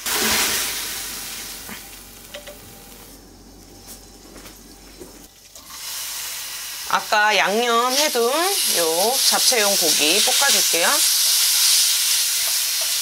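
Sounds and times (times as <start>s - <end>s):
onions sizzling in a pan: 0.0s - 3.5s, 5.3s - 13.0s.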